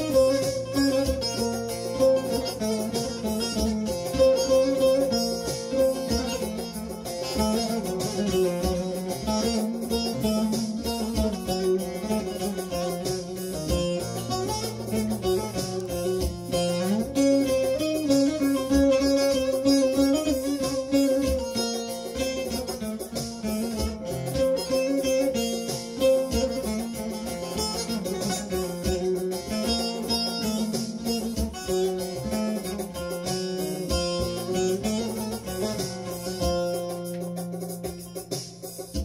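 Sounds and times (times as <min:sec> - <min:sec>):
plucked long-necked lute melody: 0:00.0 - 0:39.0.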